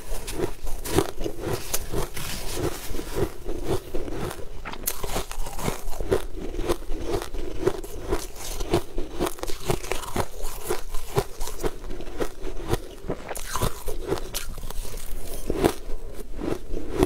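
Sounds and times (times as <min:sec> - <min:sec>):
crunching shaved ice: 0:00.0 - 0:17.0.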